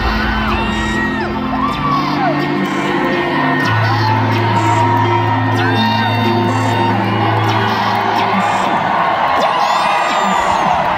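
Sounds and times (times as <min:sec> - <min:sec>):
crowd shouting and whooping: 0:00.0 - 0:10.9.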